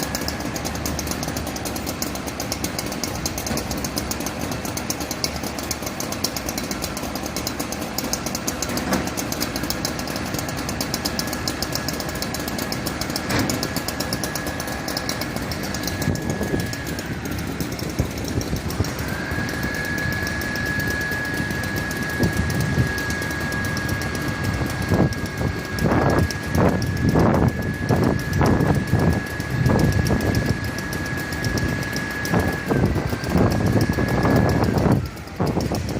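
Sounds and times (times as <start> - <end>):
fire truck engine running: 0.0 - 35.9
high-pitched whine: 0.0 - 35.9.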